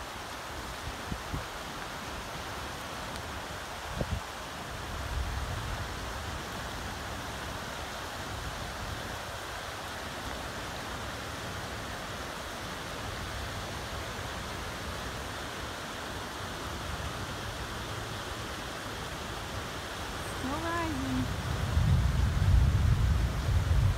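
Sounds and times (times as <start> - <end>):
floodwater rushing: 0.0 - 23.9.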